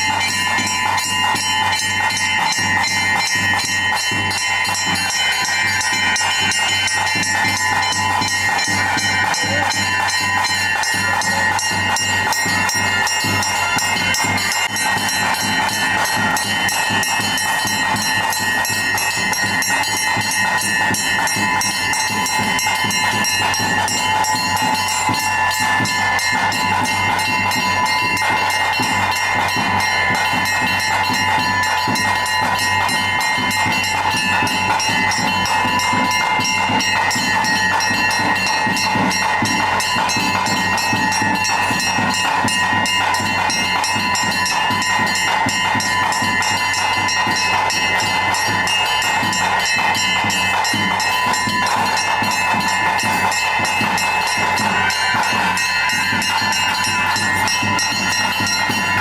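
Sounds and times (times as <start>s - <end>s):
bells and metal percussion ringing: 0.0s - 59.0s
rapid drumming: 0.0s - 59.0s
steady held high tones: 0.0s - 59.0s.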